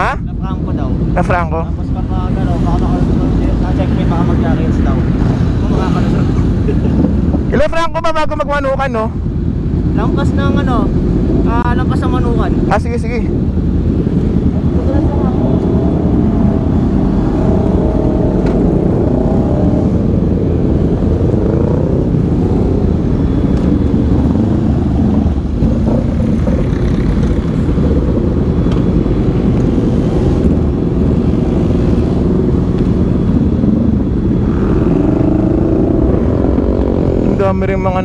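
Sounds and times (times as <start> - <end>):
motorcycles idling and revving: 0.0 - 38.0.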